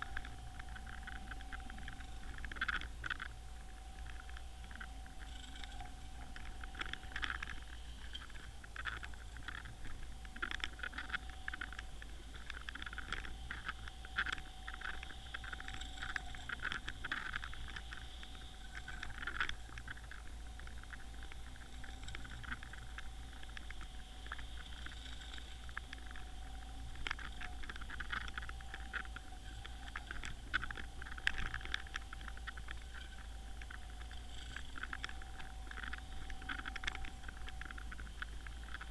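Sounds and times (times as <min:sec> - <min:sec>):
low hum: 0:00.0 - 0:38.9
thin whine: 0:00.0 - 0:38.9
underwater crackling and clicking: 0:00.0 - 0:38.9.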